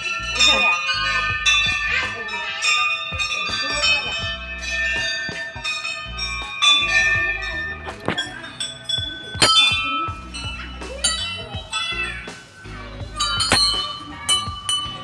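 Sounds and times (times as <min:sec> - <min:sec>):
brass temple bells ringing: 0:00.0 - 0:15.0.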